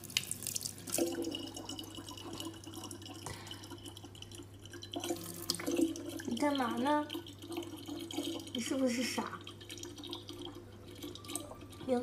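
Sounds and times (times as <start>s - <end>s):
small splashes and drips: 0.0s - 12.0s
water trickling into plastic jug: 0.0s - 12.0s.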